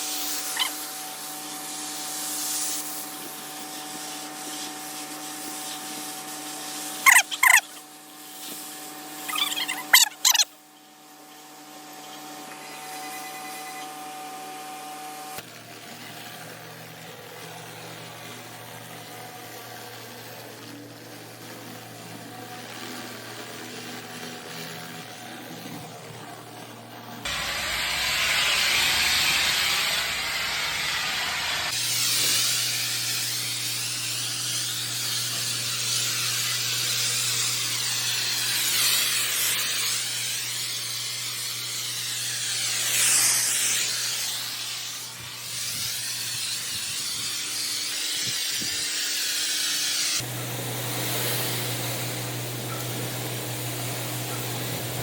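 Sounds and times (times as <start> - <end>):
pressure washer spraying: 0.0 - 10.5, 17.4 - 25.8, 26.6 - 55.0.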